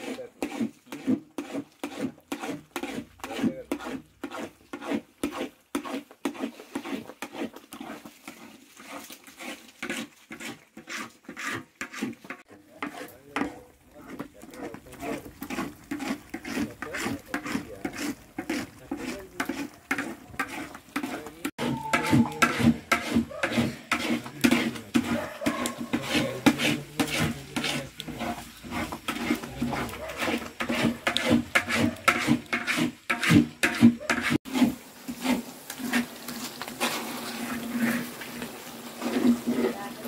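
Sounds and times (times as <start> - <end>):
paddle scraping thick mixture in wok: 0.0 - 40.0.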